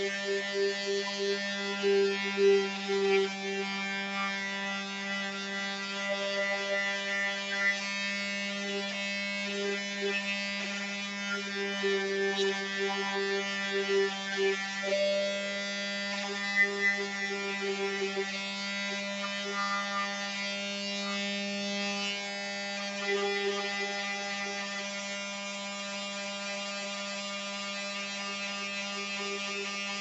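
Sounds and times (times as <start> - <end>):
electric power sander buzzing: 0.0 - 30.0.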